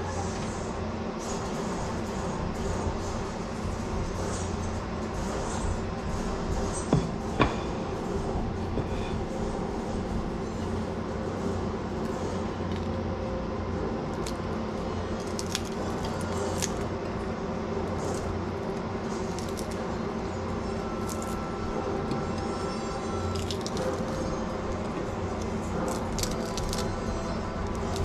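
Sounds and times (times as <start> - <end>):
electric box fan running: 0.0 - 28.0.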